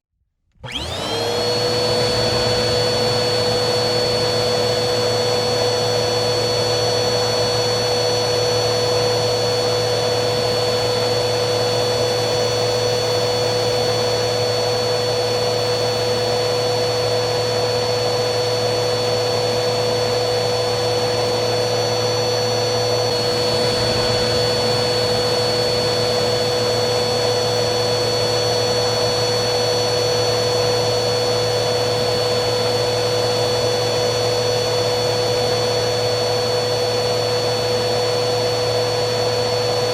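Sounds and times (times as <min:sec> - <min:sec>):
vacuum cleaner running: 0:00.5 - 0:39.9.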